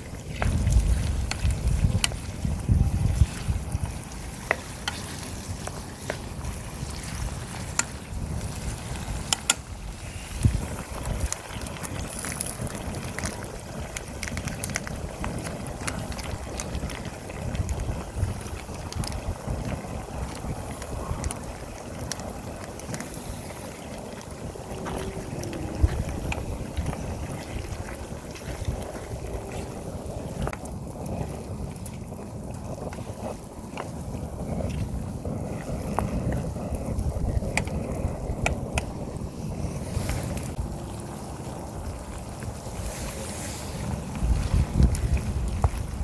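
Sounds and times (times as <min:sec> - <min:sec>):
wind gusting on microphone: 0:00.0 - 0:46.0.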